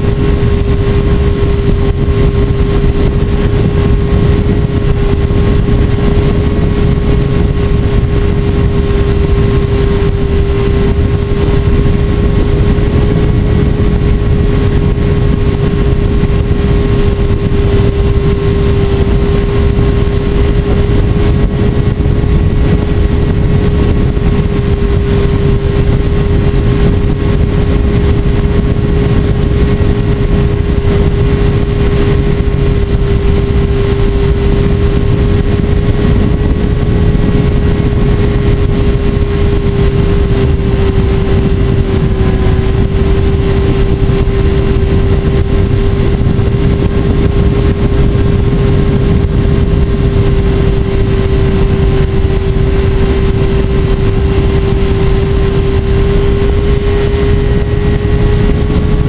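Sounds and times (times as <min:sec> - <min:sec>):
electric motor and propeller drone: 0:00.0 - 0:59.0
wind rush on microphone: 0:00.0 - 0:59.0.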